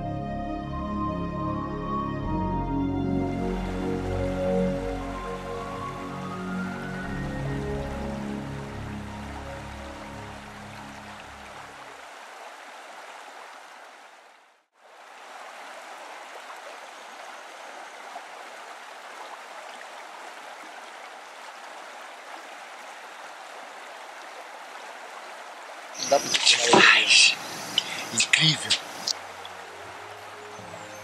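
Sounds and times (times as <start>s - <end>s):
river water rushing: 4.7s - 31.0s.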